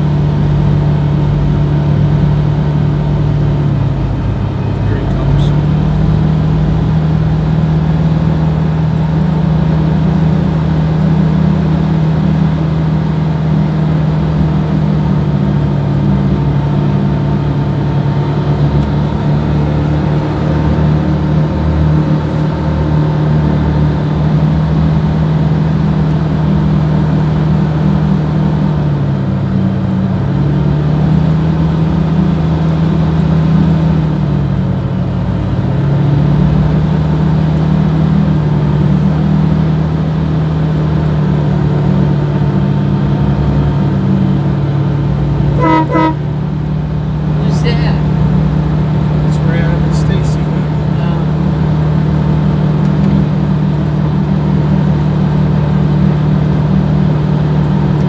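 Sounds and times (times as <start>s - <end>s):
road noise: 0.0s - 58.0s
vehicle engine droning: 0.0s - 58.0s.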